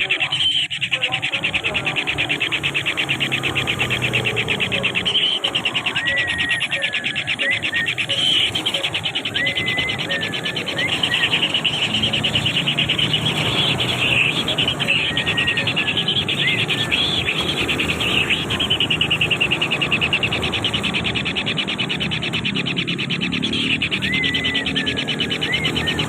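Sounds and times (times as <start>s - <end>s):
high-pitched pulsing trill: 0.0s - 26.0s.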